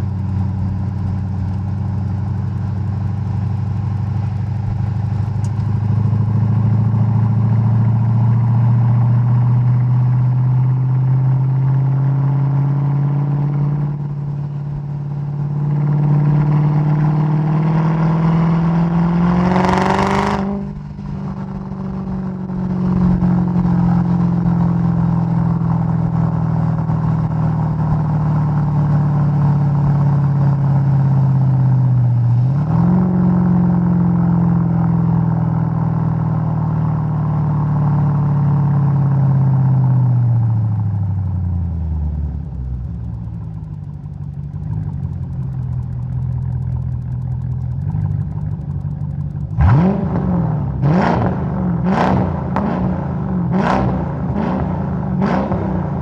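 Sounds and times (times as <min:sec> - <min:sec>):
car engine running at low revs: 0:00.0 - 0:56.0.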